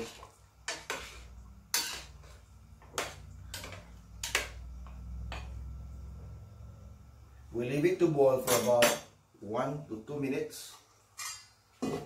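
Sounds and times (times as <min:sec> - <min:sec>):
low steady hum: 0:00.1 - 0:10.1.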